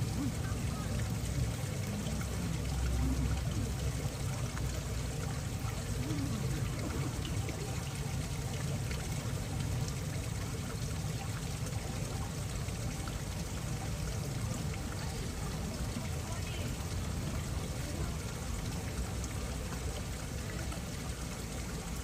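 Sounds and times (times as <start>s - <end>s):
rain falling: 0.0s - 22.0s
water trickling and pouring: 0.0s - 22.0s.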